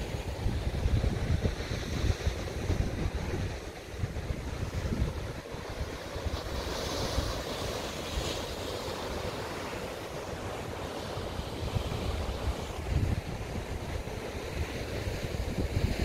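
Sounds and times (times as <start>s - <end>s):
wind gusting on microphone: 0.0s - 9.1s, 11.6s - 16.0s
ocean surf breaking over rocks: 0.0s - 16.0s.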